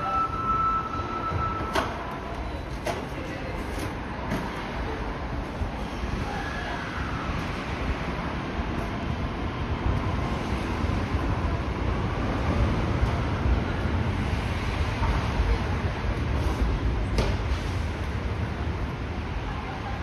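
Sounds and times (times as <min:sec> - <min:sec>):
steady noisy rumble: 0:00.0 - 0:20.0.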